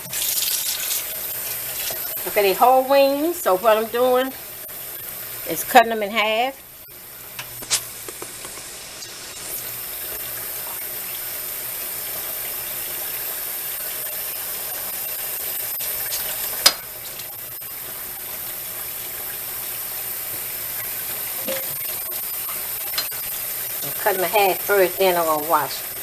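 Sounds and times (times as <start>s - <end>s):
tap water running into sink: 0.0s - 3.0s, 7.4s - 26.0s.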